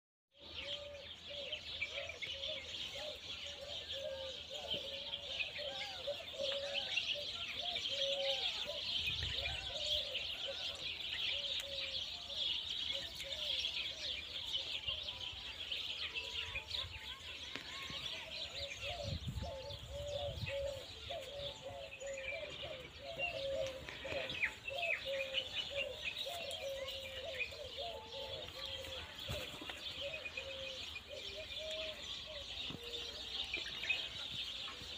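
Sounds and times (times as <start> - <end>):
birds chirping: 0.4 - 34.9.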